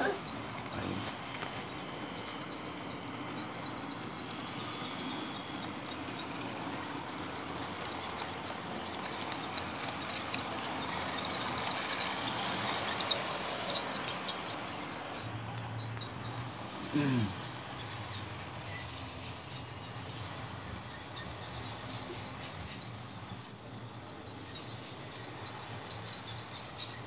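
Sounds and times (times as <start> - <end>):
model train rolling on track: 0.0 - 27.0.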